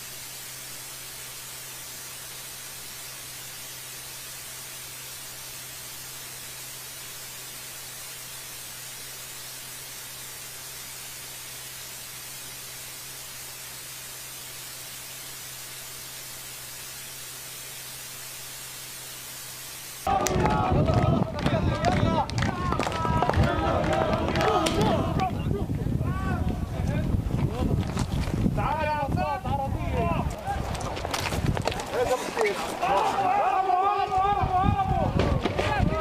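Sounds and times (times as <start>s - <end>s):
static hiss: 0.0s - 36.0s.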